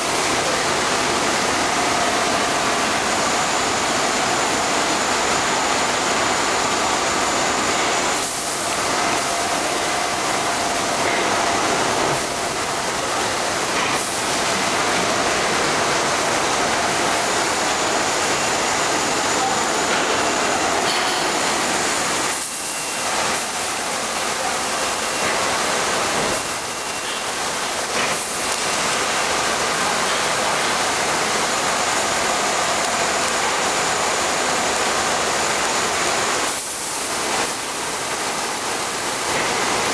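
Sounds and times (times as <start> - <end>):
rushing cooling air and machinery: 0.0 - 39.9.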